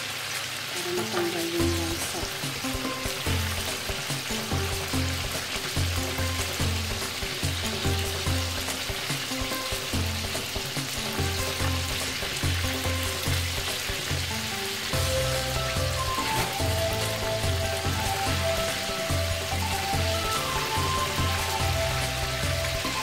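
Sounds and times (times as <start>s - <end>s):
fish frying in hot oil: 0.0s - 23.0s
background music with bass beat: 2.0s - 14.3s, 15.0s - 23.0s.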